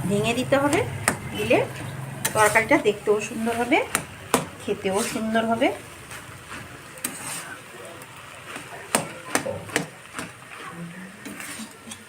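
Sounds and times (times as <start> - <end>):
spoon knocking and scraping in pan: 0.6 - 7.6, 8.4 - 12.0.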